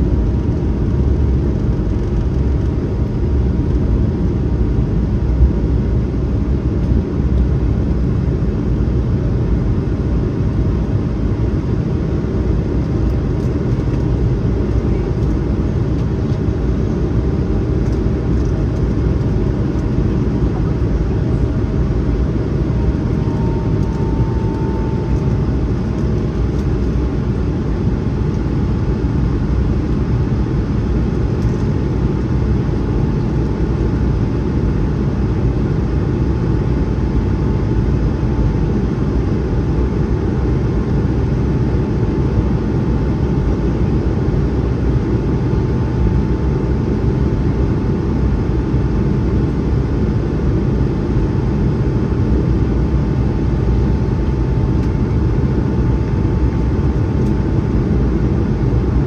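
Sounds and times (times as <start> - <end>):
aircraft cabin engine rumble: 0.0 - 59.0
faint steady whine: 0.0 - 59.0.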